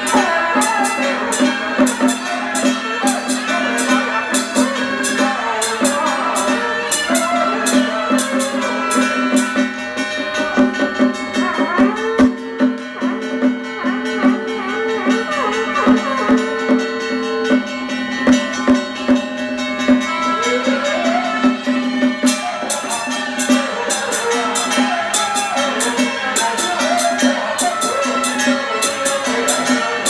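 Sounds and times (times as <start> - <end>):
drum strikes: 0.0 - 14.6, 15.8 - 30.0
wavering melody over drone: 0.0 - 30.0.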